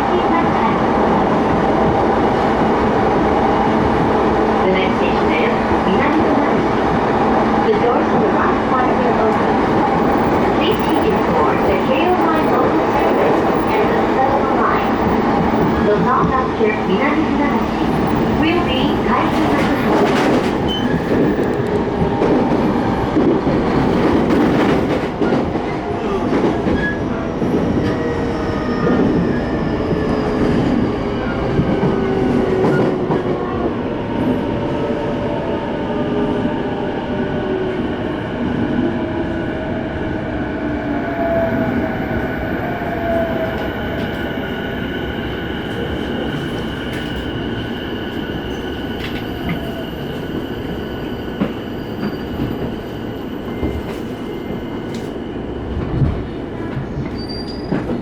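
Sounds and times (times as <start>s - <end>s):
train wheels on rails: 0.8s - 40.3s, 41.4s - 58.0s.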